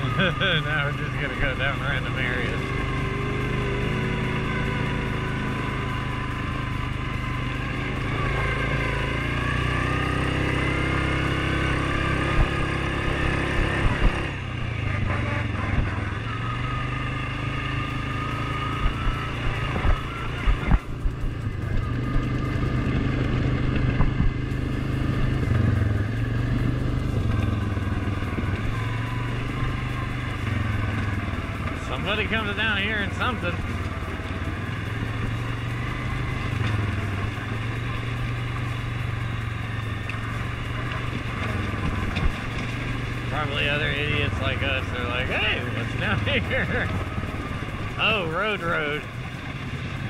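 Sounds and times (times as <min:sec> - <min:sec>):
quad engine running: 0:00.0 - 0:50.0.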